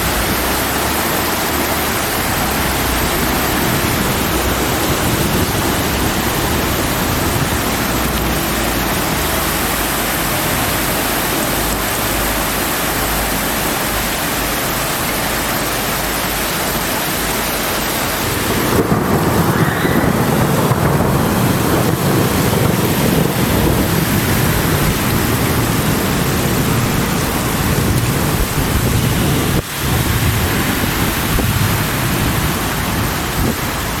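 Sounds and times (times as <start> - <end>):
thunder rumbling: 0.0 - 13.9, 15.6 - 34.0
heavy rain pouring: 0.0 - 34.0.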